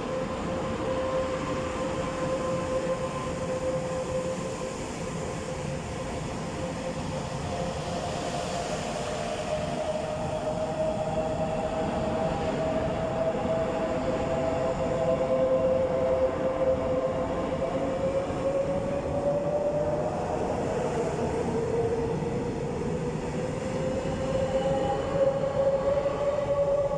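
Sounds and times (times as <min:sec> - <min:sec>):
electric train whine: 0:00.0 - 0:26.9.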